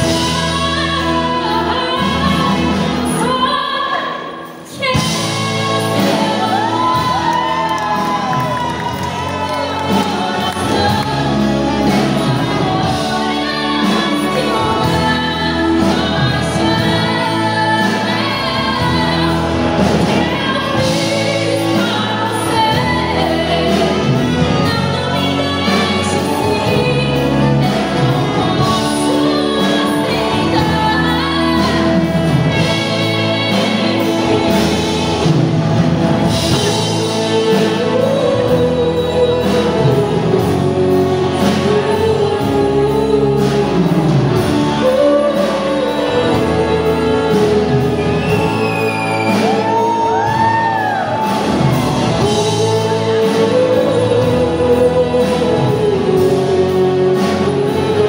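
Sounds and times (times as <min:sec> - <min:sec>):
woman singing into a microphone: 0:00.0 - 0:35.5, 0:36.2 - 0:58.0
band of keyboard drums and guitars: 0:00.0 - 0:58.0.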